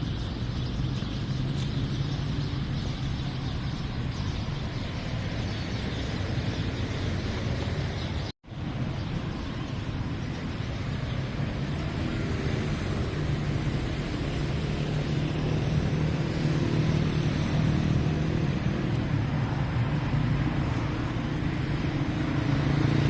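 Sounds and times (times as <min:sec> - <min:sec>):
passing cars: 0:00.0 - 0:23.0.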